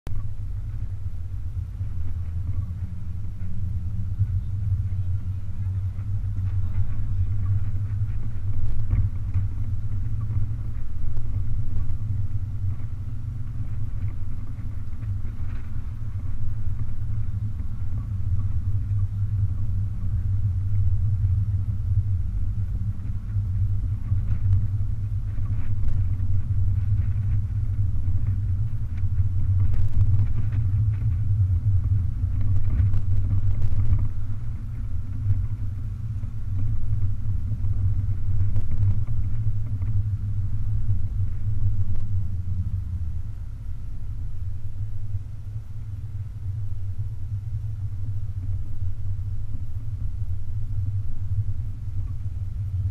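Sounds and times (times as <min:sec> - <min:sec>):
car engine rumble: 0:00.0 - 0:52.9
wind: 0:00.0 - 0:52.9
road noise: 0:00.1 - 0:52.9.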